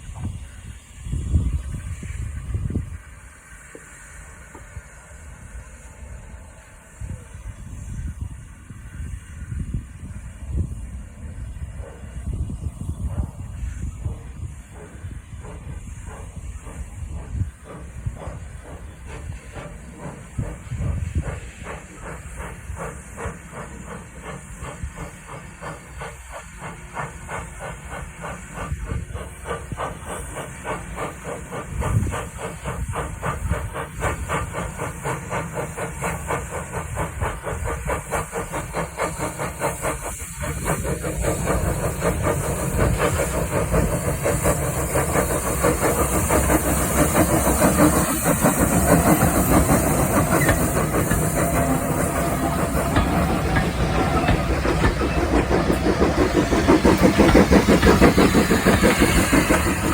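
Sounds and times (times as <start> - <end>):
steam hissing: 0.0 - 59.9
steam locomotive chugging: 0.0 - 59.9.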